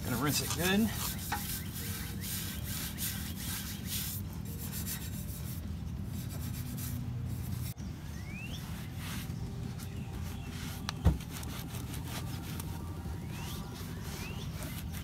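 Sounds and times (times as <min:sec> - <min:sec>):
brush scrubbing metal: 0:00.0 - 0:07.8, 0:08.6 - 0:15.0.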